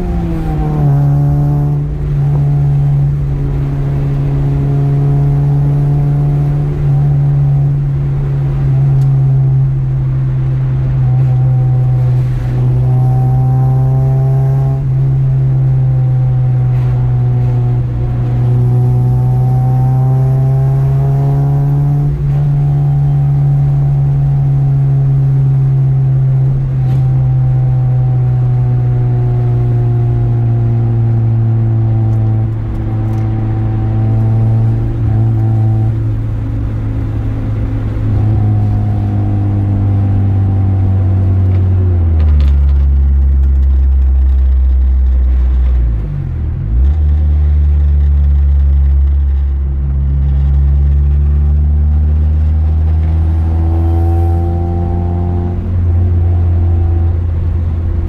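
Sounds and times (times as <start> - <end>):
car engine drone from inside: 0.0 - 58.0.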